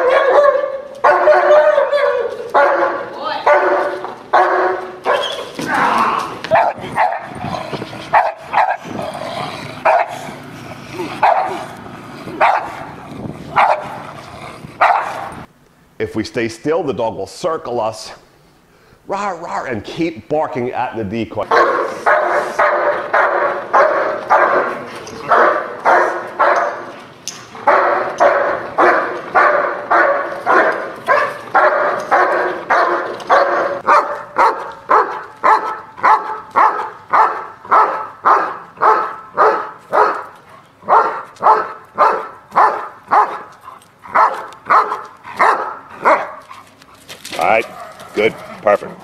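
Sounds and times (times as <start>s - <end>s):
dogs barking: 0.0s - 5.6s, 6.4s - 15.5s, 21.4s - 46.8s, 47.4s - 49.0s.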